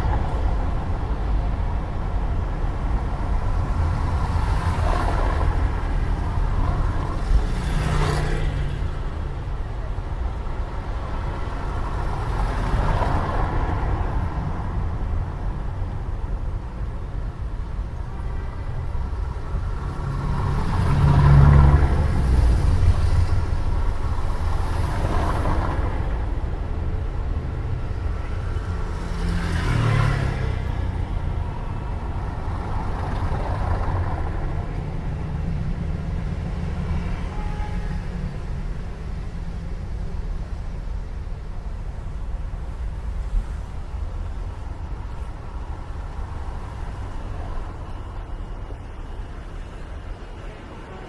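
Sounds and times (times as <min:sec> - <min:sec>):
cars passing: 0:00.0 - 0:51.0
distant traffic rumble: 0:00.0 - 0:51.0.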